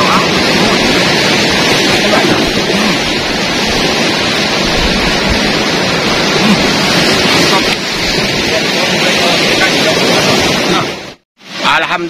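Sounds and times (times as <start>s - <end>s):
surf breaking on rocks: 0.0s - 12.0s.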